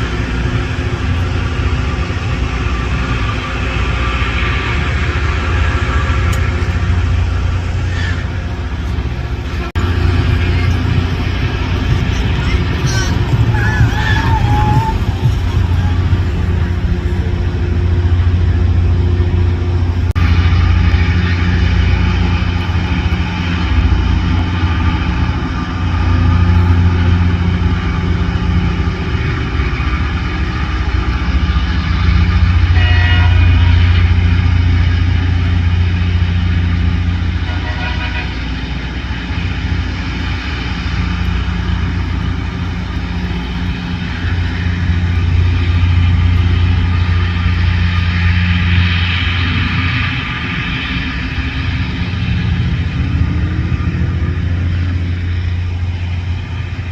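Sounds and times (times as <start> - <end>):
low engine hum: 0.0 - 56.9
rushing grinding noise: 0.0 - 56.9.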